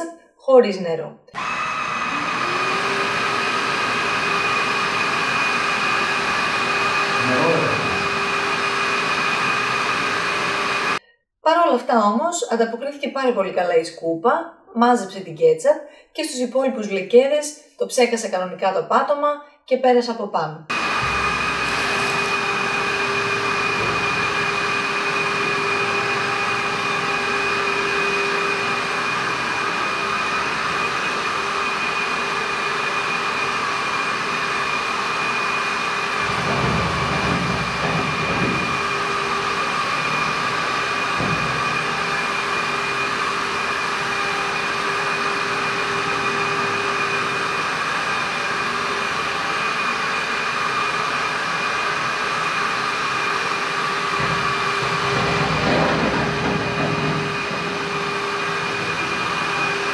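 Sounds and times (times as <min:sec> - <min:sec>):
stick vacuum running: 0:01.4 - 0:11.0, 0:20.7 - 0:59.9.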